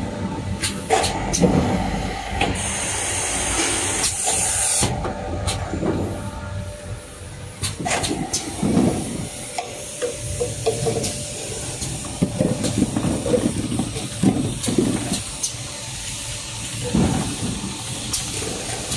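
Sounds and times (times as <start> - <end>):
compressed air hissing: 0.7 - 5.6, 7.5 - 18.9.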